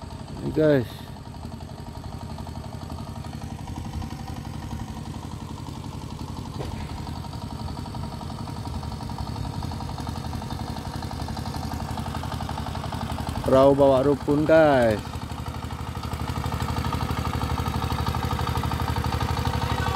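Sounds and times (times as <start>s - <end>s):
small boat engine chugging: 0.0s - 19.9s.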